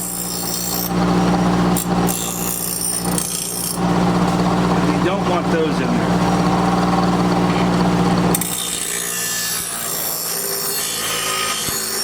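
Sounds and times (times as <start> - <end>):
bench grinder motor hum: 0.0 - 12.0
blade grinding on wheel: 0.0 - 12.0.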